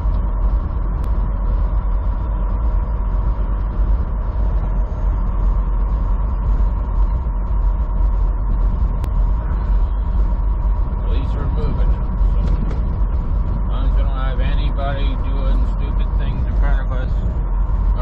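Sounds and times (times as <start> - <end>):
diesel truck engine drone: 0.0 - 18.0
faint whine: 0.0 - 18.0.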